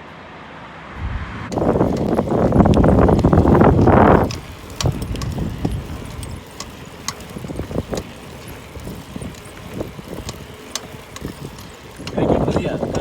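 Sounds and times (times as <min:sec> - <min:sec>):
low rumble of riding: 0:01.0 - 0:13.0
bicycle bracket clicks and knocks: 0:01.5 - 0:13.0.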